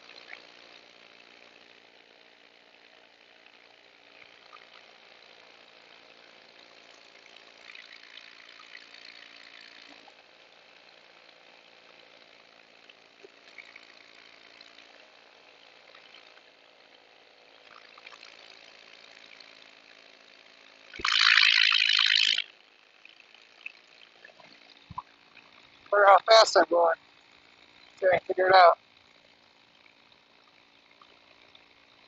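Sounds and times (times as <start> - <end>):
muffled paramotor engine: 0.0 - 32.0.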